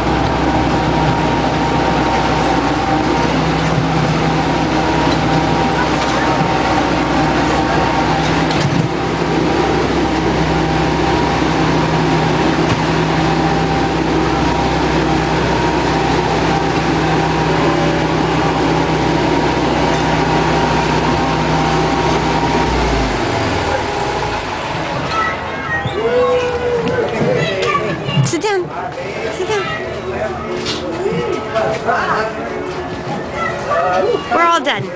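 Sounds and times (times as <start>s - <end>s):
miniature train rumbling: 0.0s - 34.9s.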